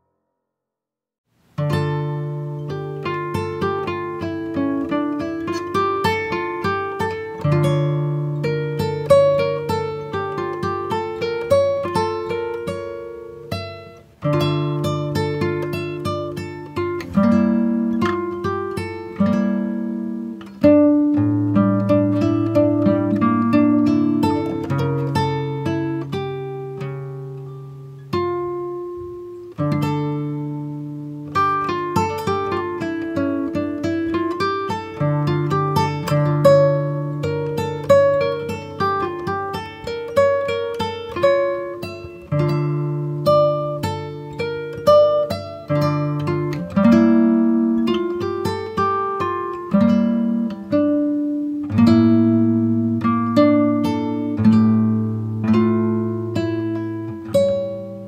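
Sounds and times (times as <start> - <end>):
slow acoustic guitar: 1.3 - 58.0.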